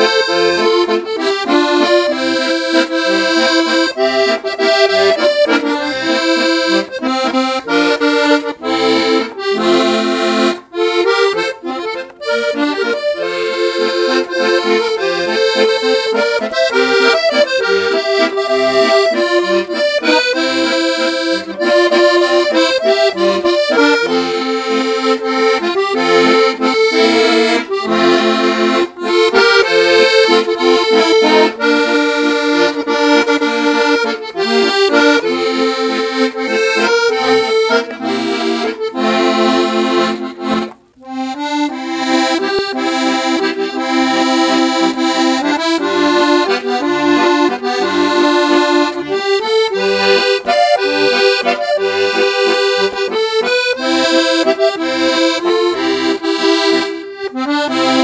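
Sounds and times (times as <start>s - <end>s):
accordion playing a tune: 0.0s - 58.0s.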